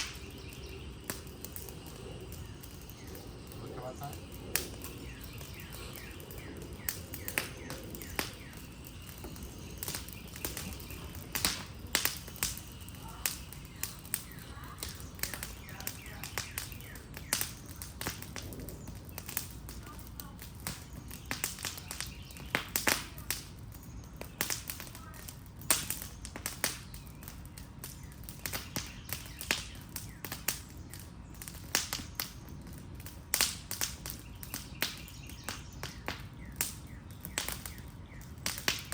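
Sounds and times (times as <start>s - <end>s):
fire popping and snapping: 0.0s - 38.9s
low rumble of flame: 0.0s - 38.9s.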